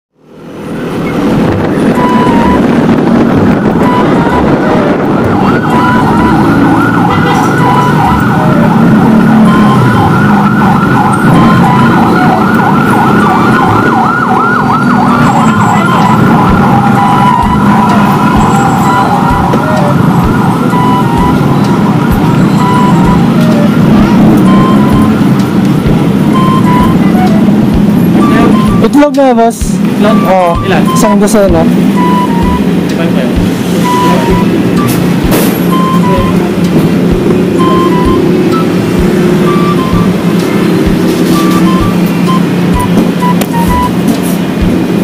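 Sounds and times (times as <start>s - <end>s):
road traffic noise: 0.1s - 45.0s
siren yelping: 0.4s - 45.0s.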